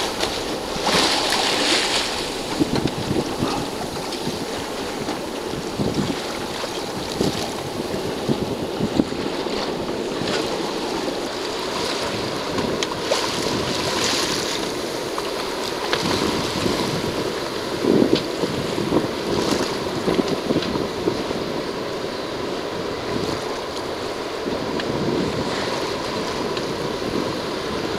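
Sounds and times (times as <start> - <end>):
water rushing along a hull: 0.0 - 27.9
wind buffeting microphone: 0.0 - 27.9.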